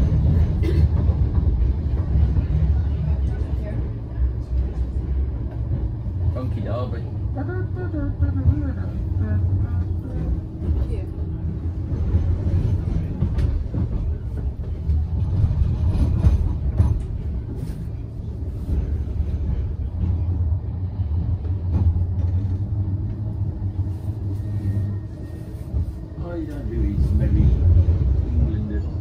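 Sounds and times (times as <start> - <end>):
tram rumbling: 0.0 - 29.0.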